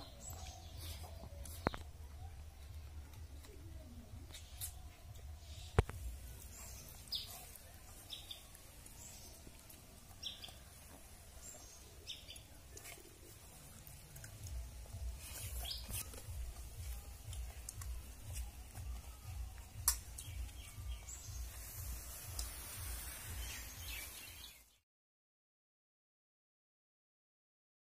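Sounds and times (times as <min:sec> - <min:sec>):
birds chirping: 0:00.0 - 0:24.8.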